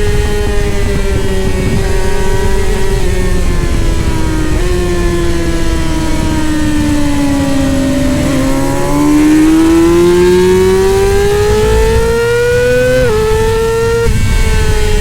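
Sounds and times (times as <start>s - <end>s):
race motorcycle engine accelerating: 0.0s - 15.0s.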